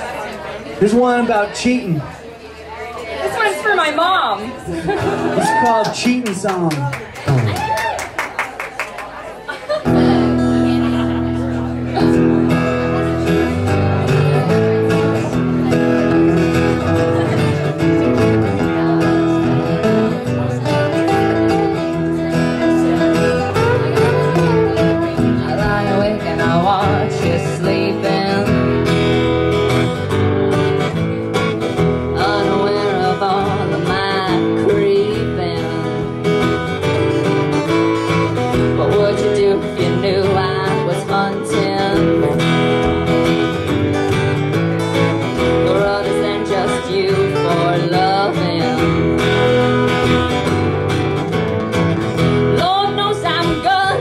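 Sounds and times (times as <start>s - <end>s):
acoustic guitar strumming: 9.8s - 54.0s.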